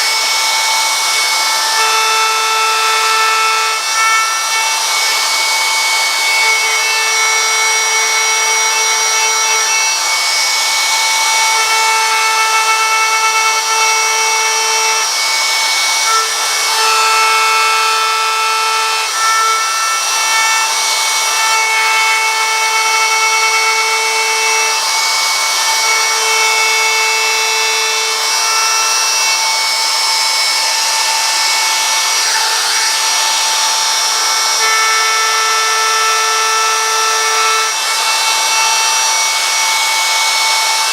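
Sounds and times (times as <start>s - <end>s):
power tool motor cutting wood: 0.0s - 40.9s.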